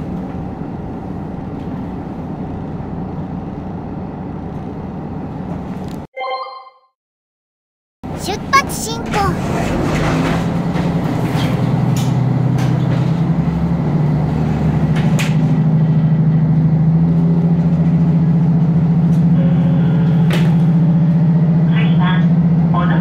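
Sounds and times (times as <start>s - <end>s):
railcar engine drone: 0.0s - 6.0s, 9.4s - 23.0s.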